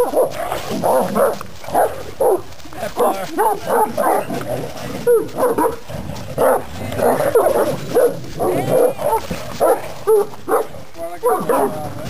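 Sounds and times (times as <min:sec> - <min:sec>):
dogs snarling and barking: 0:00.0 - 0:12.0.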